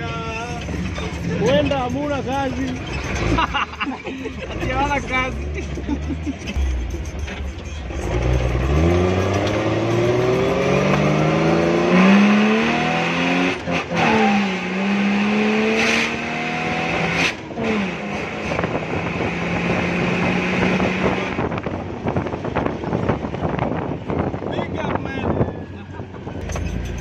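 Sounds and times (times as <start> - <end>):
car engine accelerating: 0.0 - 24.7
road and wind noise: 0.0 - 27.0.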